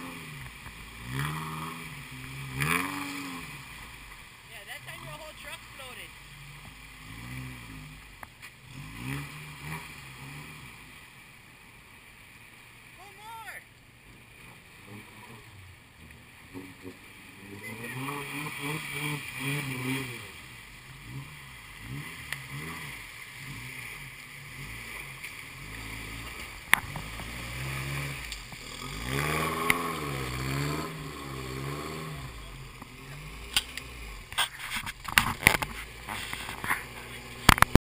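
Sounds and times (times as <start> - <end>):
truck engine revving: 0.0 - 11.0, 14.1 - 37.7
water splashing: 0.0 - 37.8.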